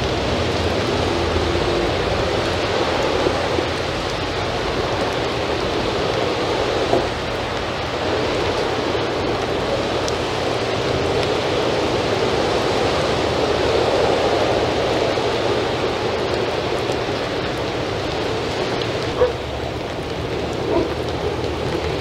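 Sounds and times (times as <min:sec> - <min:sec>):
rain falling on wet paving: 0:00.0 - 0:22.0.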